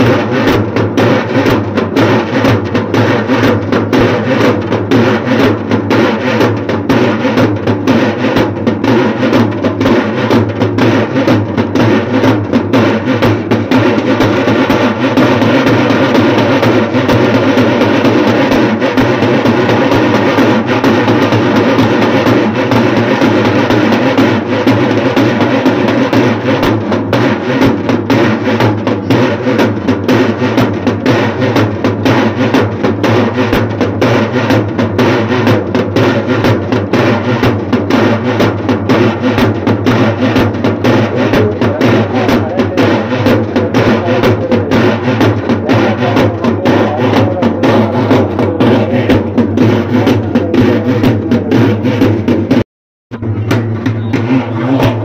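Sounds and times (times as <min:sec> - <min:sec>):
dense steady din: 0:00.0 - 0:55.0
loud fast drumming: 0:00.0 - 0:55.0.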